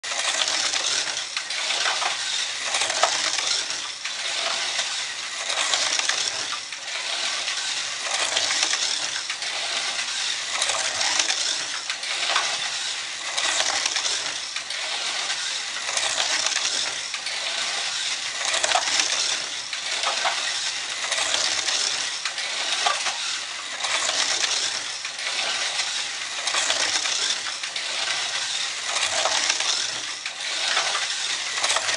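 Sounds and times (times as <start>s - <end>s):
slot car rattling around track: 0.0s - 31.9s.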